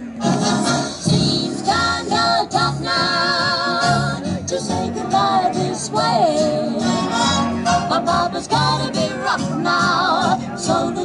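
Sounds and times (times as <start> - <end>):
music accompaniment: 0.0 - 11.0
female vocal trio singing swing: 0.2 - 11.0.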